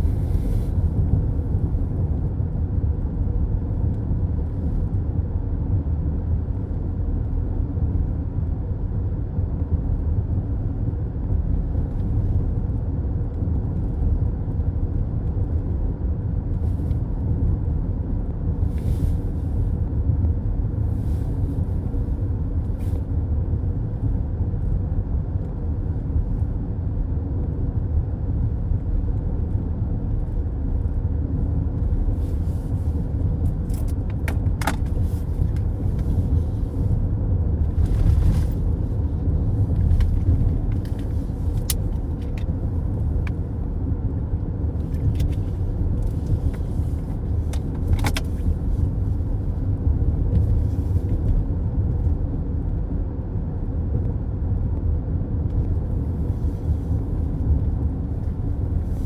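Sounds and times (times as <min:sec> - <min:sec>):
car road noise rumble: 0:00.0 - 0:59.0.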